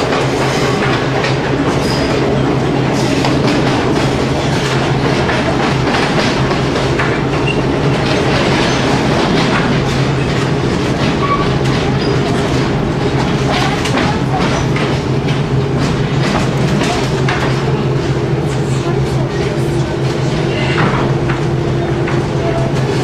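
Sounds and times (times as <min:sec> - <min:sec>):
diesel railcar engine hum: 0:00.0 - 0:23.0
wheel and track noise: 0:00.0 - 0:23.0
wheels clacking over rail joints: 0:00.0 - 0:23.0.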